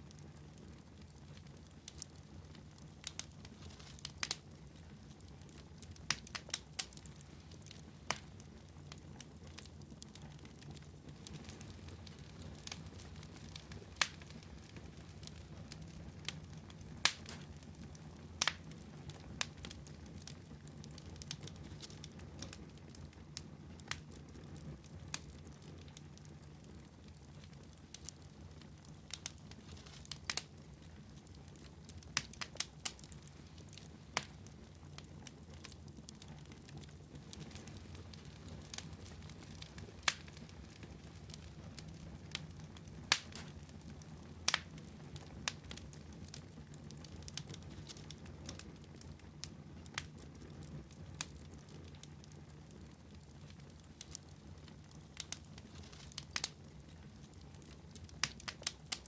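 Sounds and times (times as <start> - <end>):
fire crackling in a fireplace: 0.0 - 59.0.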